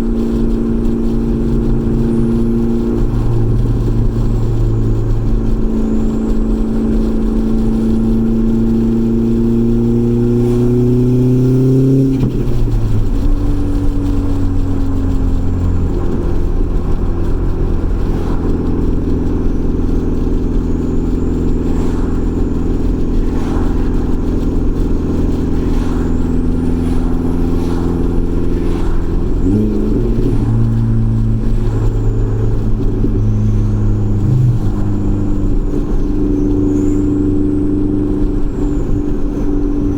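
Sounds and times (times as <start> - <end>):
turbocharged car engine revving: 0.0 - 39.9.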